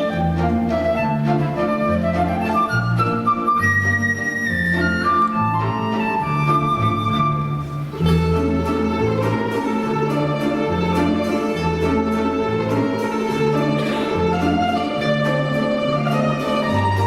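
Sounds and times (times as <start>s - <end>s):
folk instrument orchestra playing: 0.0s - 17.0s.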